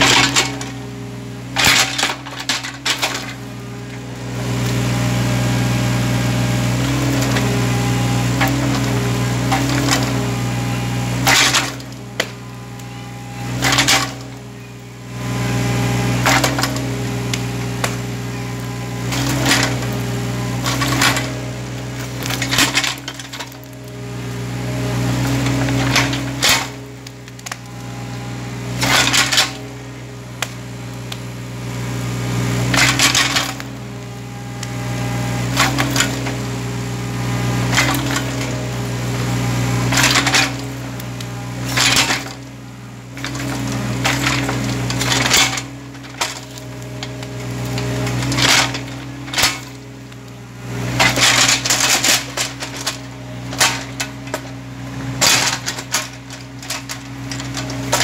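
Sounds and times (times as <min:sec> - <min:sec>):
bucket scraping stump and soil: 0:00.0 - 0:31.1, 0:32.0 - 0:34.0, 0:34.7 - 0:58.0
excavator diesel engine running: 0:00.0 - 0:58.0
hydraulics whining: 0:00.0 - 0:58.0.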